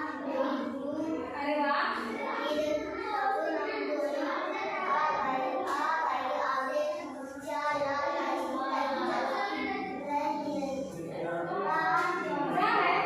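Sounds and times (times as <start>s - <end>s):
child singing: 1.9s - 13.0s.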